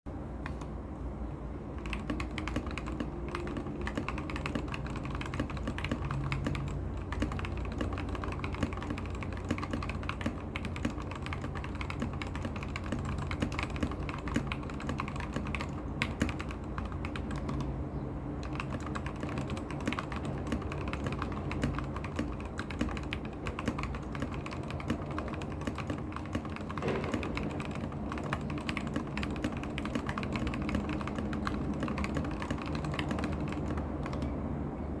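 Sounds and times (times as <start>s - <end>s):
fast mechanical keyboard typing: 0.4s - 0.7s, 1.7s - 17.8s, 18.4s - 34.4s.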